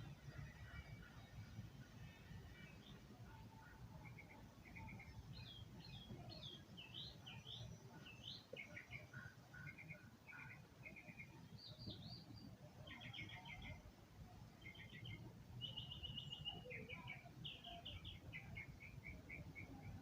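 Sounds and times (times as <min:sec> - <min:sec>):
faint high bird chirps: 0:02.1 - 0:13.8, 0:14.6 - 0:20.0.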